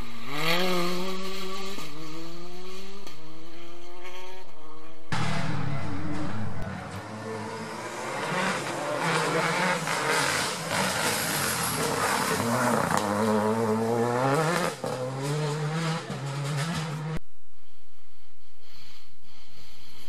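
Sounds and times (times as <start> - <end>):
rally car engine revving: 0.0 - 17.2.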